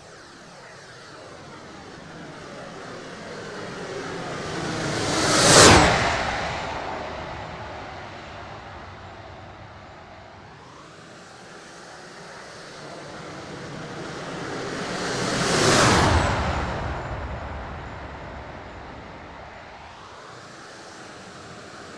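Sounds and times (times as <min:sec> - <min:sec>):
model jet engine roaring past: 0:00.0 - 0:21.9.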